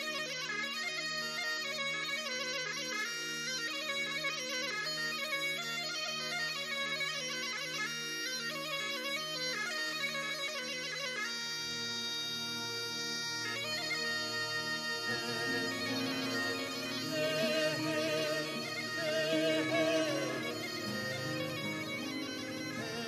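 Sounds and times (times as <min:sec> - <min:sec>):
bagpipe melody with drone: 0:00.0 - 0:23.0.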